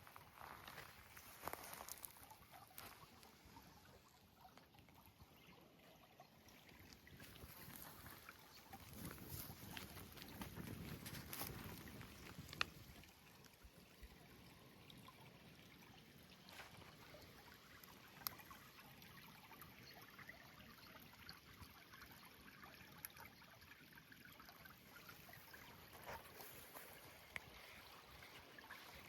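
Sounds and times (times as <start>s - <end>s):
water trickling onto ground: 0.0s - 29.0s.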